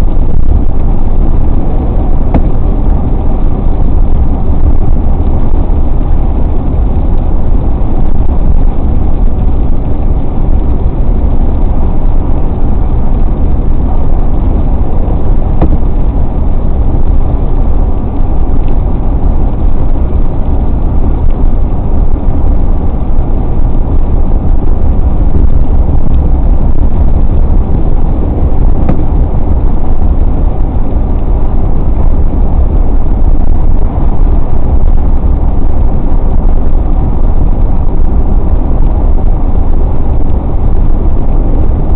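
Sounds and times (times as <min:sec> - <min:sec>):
car driving on highway: 0:00.0 - 0:41.9.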